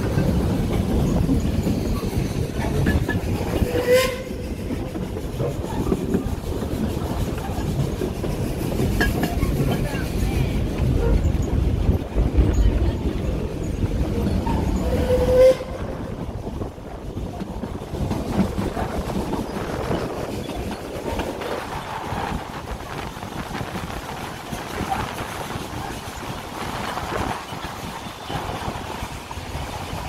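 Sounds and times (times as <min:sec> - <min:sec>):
train wheels clattering on rails: 0:00.0 - 0:30.0.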